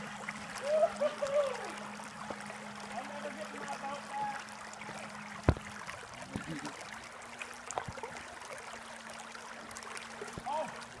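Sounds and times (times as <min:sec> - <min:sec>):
creek water rippling: 0:00.0 - 0:11.0
faint steady hum: 0:00.0 - 0:11.0.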